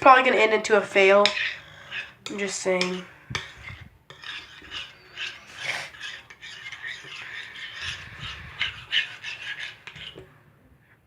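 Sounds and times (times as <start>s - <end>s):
spoon stirring in a bowl: 0.0s - 10.4s.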